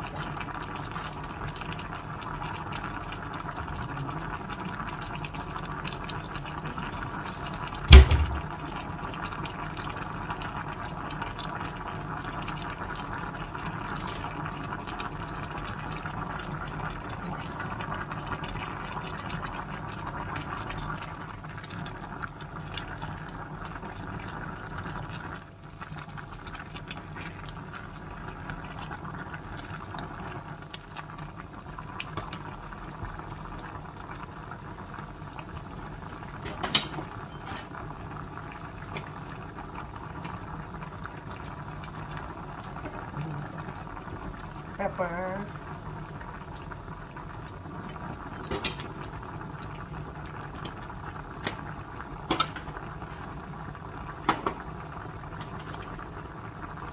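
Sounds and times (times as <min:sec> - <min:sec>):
stew bubbling at a boil: 0:00.0 - 0:56.9.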